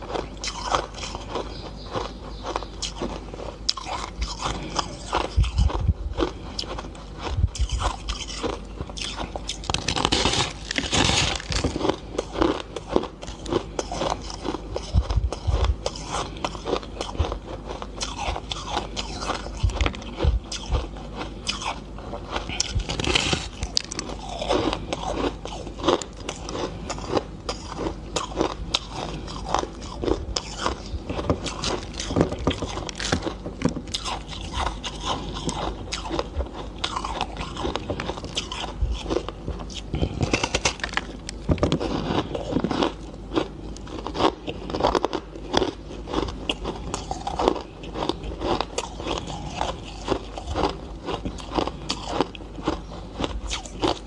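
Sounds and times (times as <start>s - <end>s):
ice being crunched and chewed: 0.0s - 54.0s.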